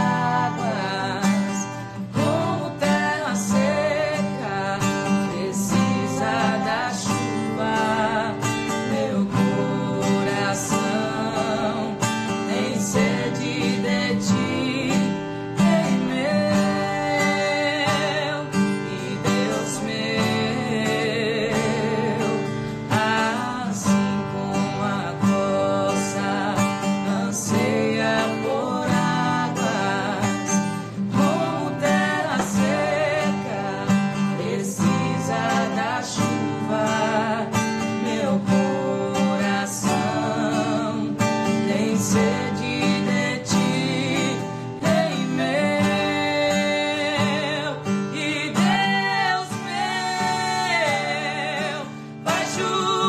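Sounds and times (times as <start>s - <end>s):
strummed acoustic guitar: 0.0s - 53.0s
woman singing with vibrato: 0.0s - 53.0s.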